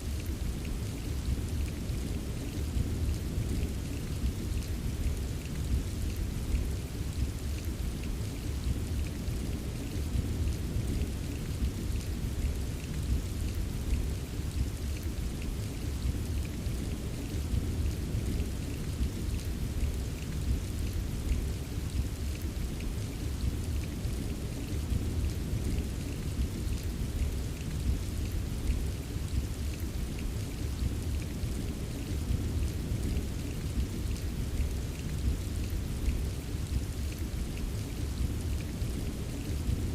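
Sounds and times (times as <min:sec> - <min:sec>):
constant low rumble: 0:00.0 - 0:39.9
rain hiss: 0:00.0 - 0:39.9.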